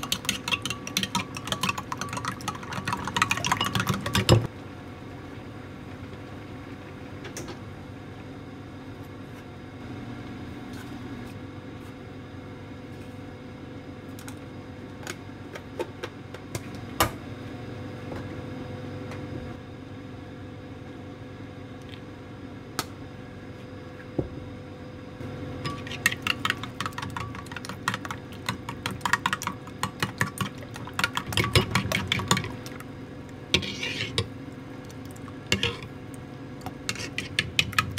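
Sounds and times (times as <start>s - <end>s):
kitchen appliance humming: 0.0s - 37.9s.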